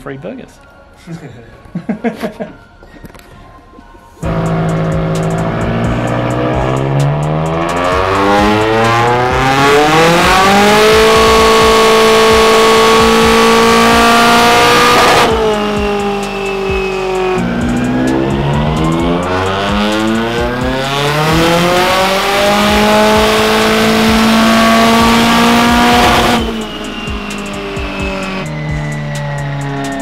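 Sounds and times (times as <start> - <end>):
car engine revving on dyno: 4.2 - 30.0.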